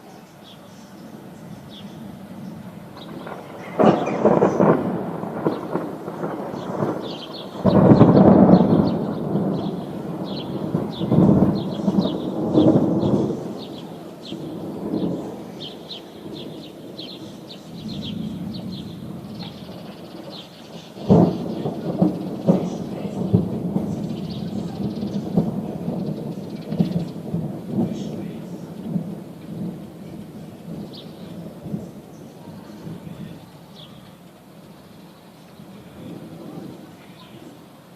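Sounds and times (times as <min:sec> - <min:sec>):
thunder rolling: 0:02.0 - 0:37.9
thunder crack with crackling: 0:02.6 - 0:33.4, 0:35.6 - 0:37.0.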